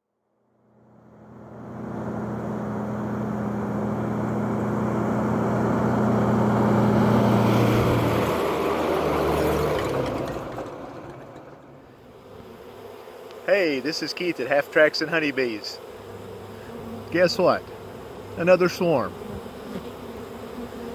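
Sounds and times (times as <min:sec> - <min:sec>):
motor humming: 0:01.5 - 0:20.9.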